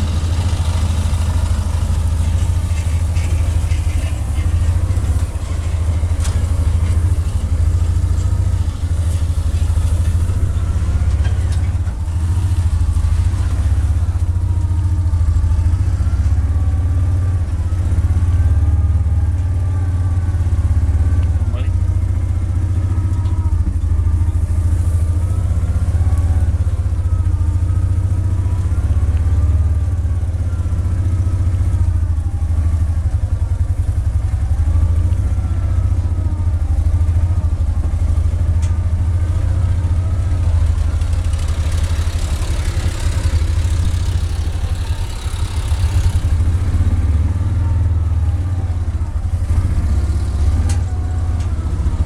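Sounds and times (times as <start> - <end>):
off-road vehicle engine humming: 0.0 - 52.0.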